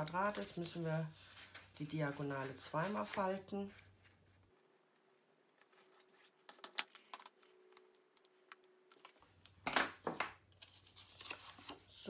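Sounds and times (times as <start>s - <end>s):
paper crinkle: 0.0s - 12.0s.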